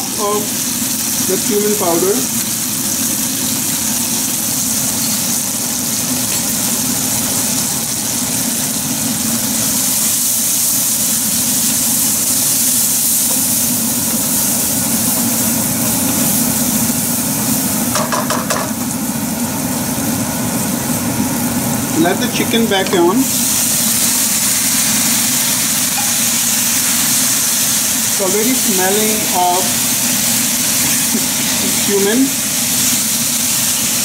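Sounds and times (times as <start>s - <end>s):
chilies sizzling in oil: 0.0s - 34.0s.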